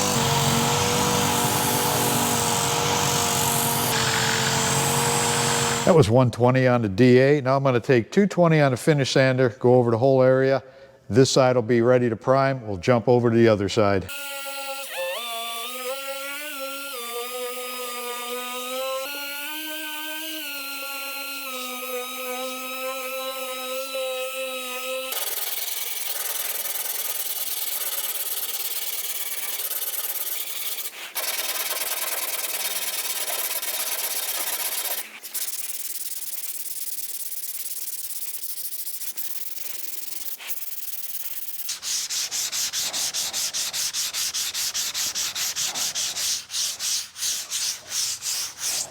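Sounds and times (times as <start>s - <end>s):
power sander sanding: 0.0s - 6.1s, 14.1s - 48.9s.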